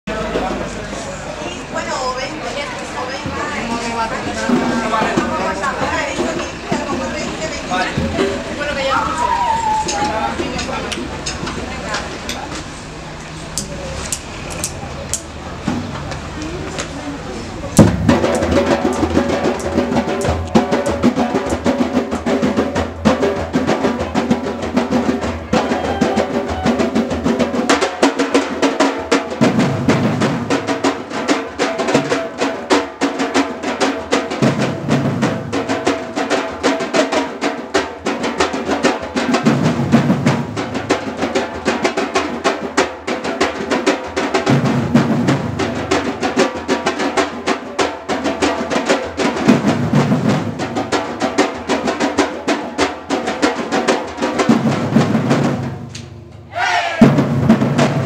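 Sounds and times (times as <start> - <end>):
drum ensemble fast rhythm: 0.1 - 58.0.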